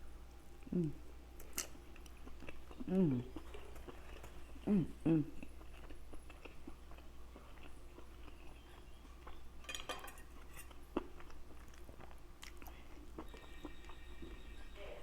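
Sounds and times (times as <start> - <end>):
person chewing: 0.6 - 9.6, 10.2 - 14.6.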